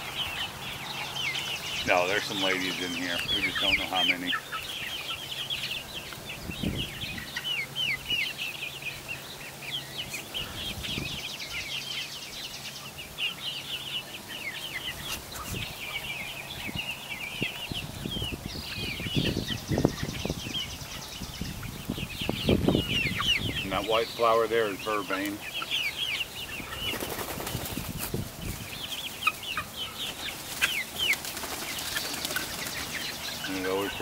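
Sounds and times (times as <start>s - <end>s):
chicks peeping and chirping: 0.0s - 34.0s.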